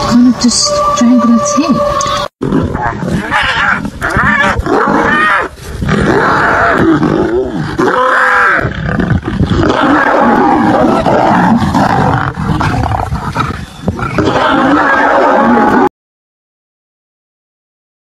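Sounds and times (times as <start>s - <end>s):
lions growling and roaring: 0.8s - 15.9s.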